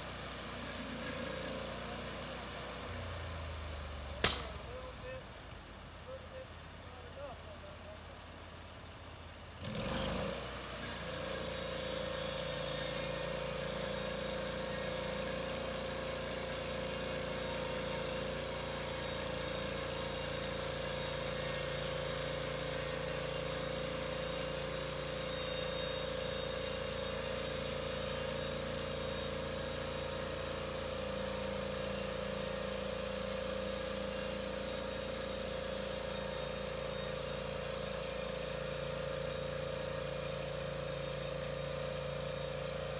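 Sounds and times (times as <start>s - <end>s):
saw blade high whine: 0.0s - 3.5s, 9.6s - 42.9s
bandsaw mill engine running: 0.0s - 7.5s, 9.5s - 42.9s.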